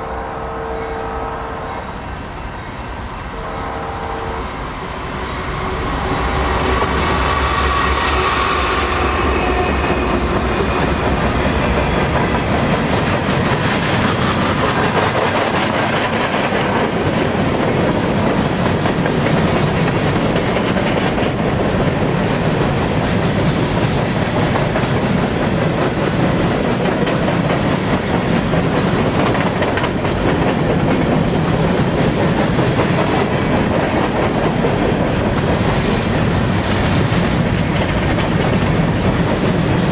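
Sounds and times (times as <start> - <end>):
train wheels clacking over rail joints: 6.3 - 39.9.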